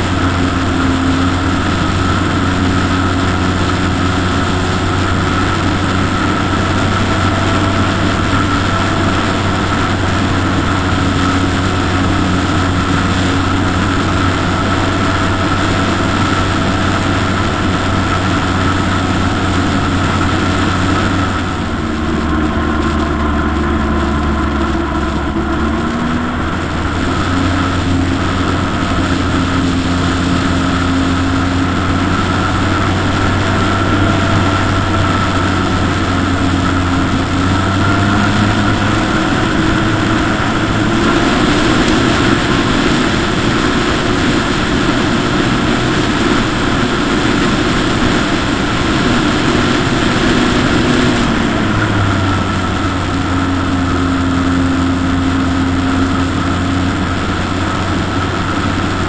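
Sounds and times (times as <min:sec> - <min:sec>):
model aircraft motor running: 0:00.0 - 0:59.0
rushing air: 0:00.0 - 0:59.0.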